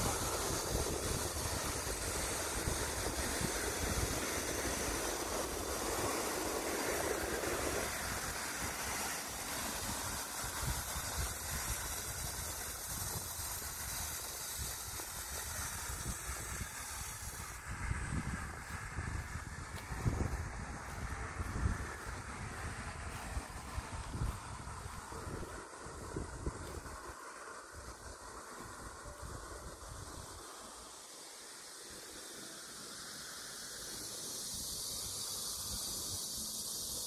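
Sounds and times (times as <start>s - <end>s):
wind buffeting microphone: 0.0s - 30.5s
steady outdoor hiss: 0.0s - 37.0s.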